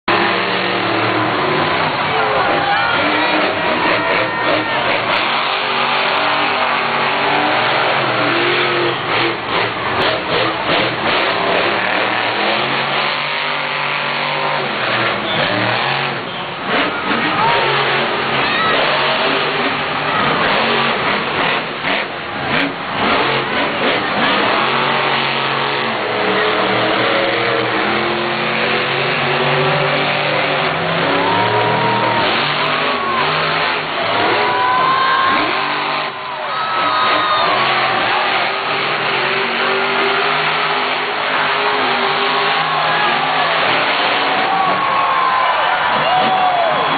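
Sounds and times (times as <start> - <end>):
monster truck engine revving: 0.0 - 46.9.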